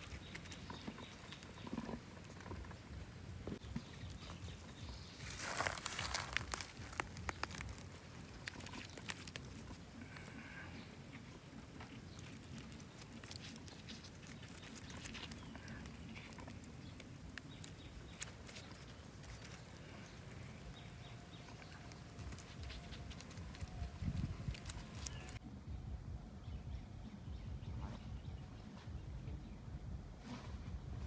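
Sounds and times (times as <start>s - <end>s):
crackling of meat roasting on embers: 0.0s - 25.4s.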